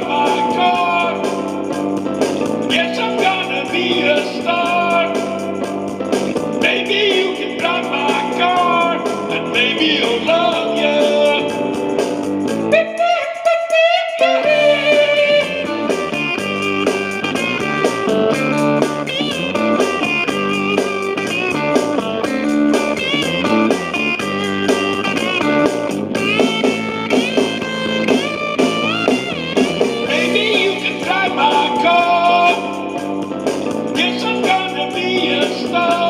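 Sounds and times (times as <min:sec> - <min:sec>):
bass and drums: 0:00.0 - 0:13.0, 0:14.3 - 0:36.0
electric guitar solo: 0:00.0 - 0:36.0.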